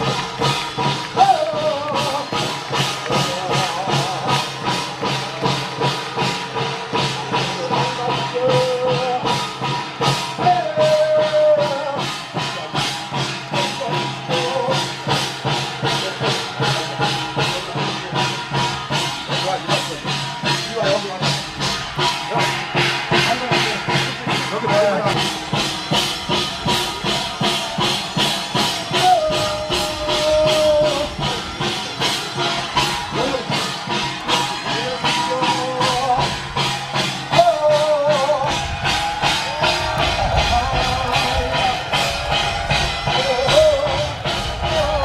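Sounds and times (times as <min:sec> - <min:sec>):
held melodic notes: 0:00.0 - 0:45.0
percussion striking quick beat: 0:00.0 - 0:45.0.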